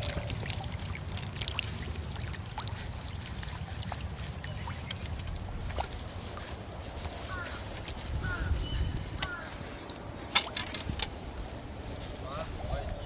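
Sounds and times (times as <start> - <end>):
water sloshing and splashing: 0.0 - 12.2.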